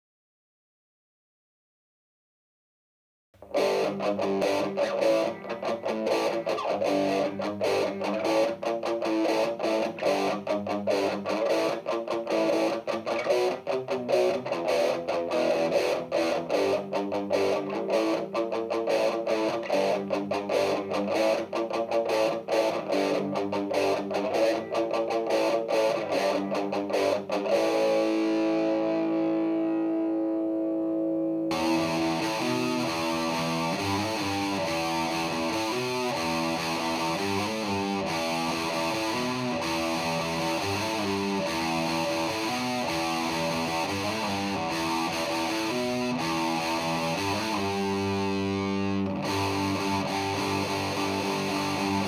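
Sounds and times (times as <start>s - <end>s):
fuzzed electric guitar riff: 3.4s - 52.0s.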